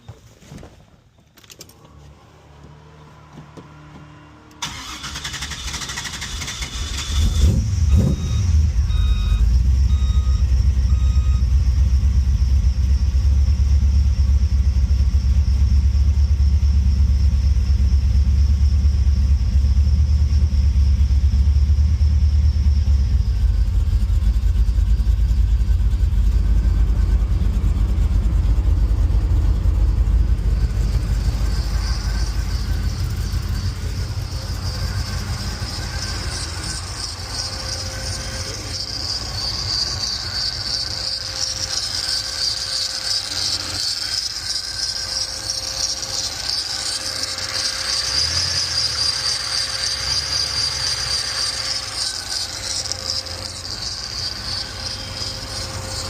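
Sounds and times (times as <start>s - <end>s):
car engine cranking and idling: 1.1s - 56.0s
high-pitched belt squeal: 1.6s - 56.0s.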